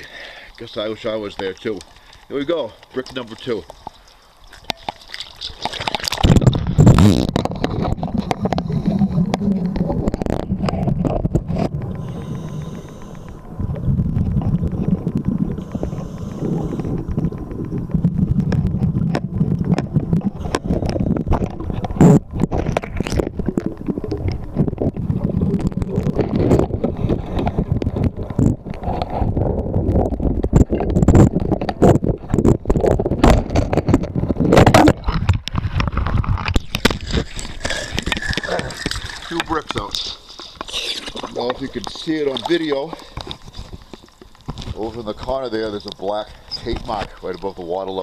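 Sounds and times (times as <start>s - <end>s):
muffled underwater rumble: 5.8s - 48.0s.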